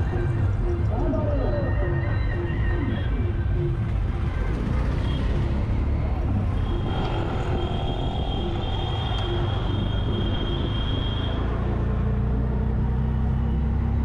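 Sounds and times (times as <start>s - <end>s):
auto rickshaw engine running: 0.0s - 14.0s
road noise: 0.0s - 14.0s.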